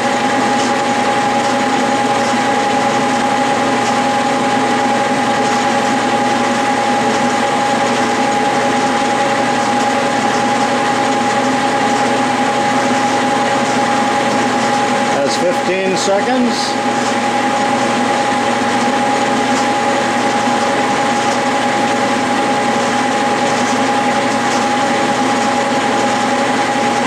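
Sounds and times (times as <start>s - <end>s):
mechanical hum: 0.0s - 27.0s
metal lathe whine: 0.0s - 27.0s.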